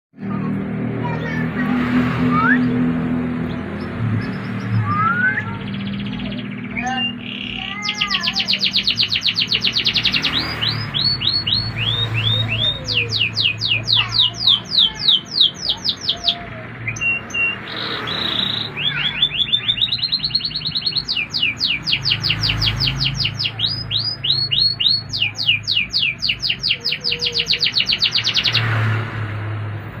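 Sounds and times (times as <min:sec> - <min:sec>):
canary singing rapid trills: 0:02.4 - 0:29.0.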